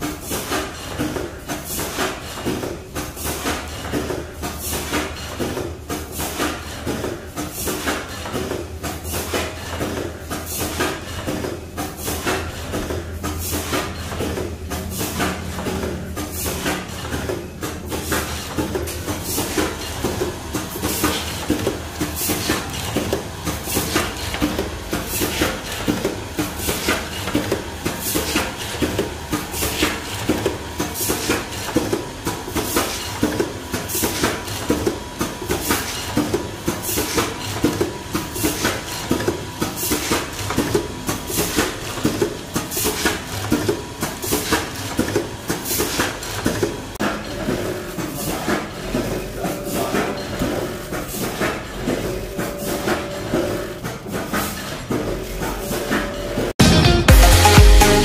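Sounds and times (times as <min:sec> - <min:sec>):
packing machine clacking: 0:00.0 - 0:56.6.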